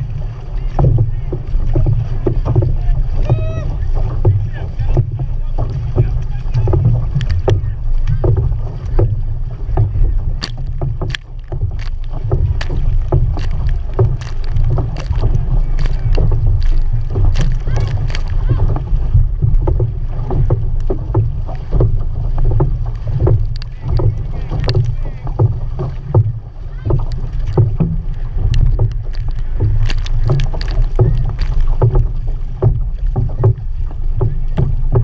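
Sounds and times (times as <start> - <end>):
paddles splashing into water: 0.0 - 35.0
spray slapping the hull: 0.0 - 35.0
wind rumble on microphone: 0.0 - 35.0.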